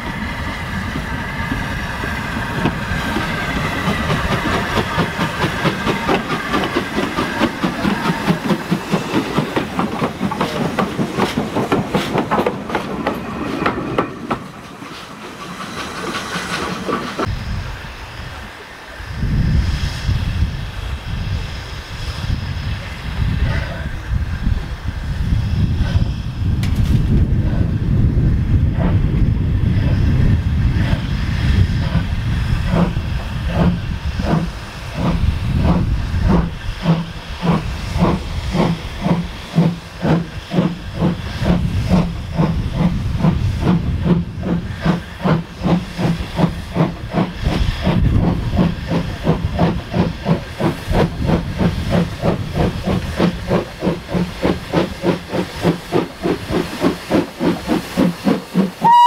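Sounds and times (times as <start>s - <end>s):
steam hissing: 0.0s - 59.0s
steam locomotive exhaust beats: 0.0s - 59.0s.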